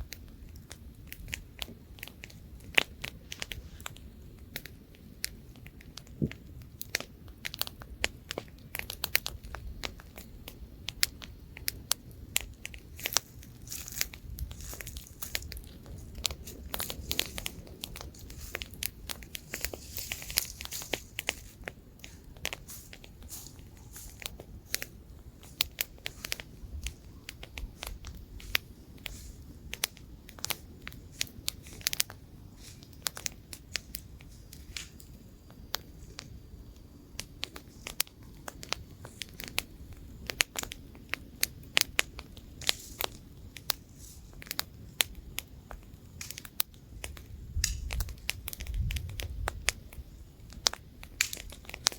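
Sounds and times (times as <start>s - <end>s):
campfire wood crackling: 0.0s - 51.9s
light wind: 0.0s - 51.9s
low rumble of flame: 0.0s - 51.9s.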